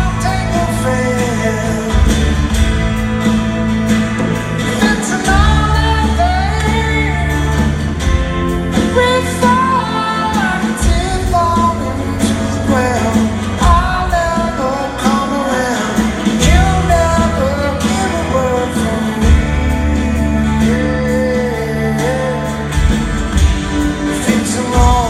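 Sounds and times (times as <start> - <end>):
person singing lead vocal: 0.0 - 3.5, 4.2 - 25.0
rock band playing: 0.0 - 25.0.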